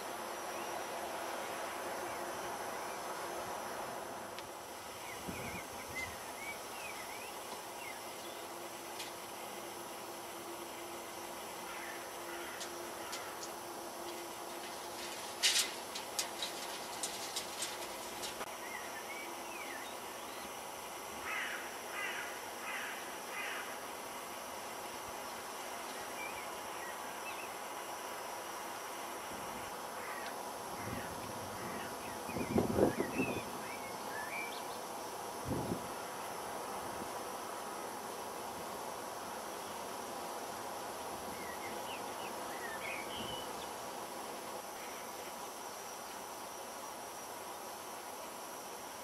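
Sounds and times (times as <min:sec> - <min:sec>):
background hiss: 0:00.0 - 0:49.0.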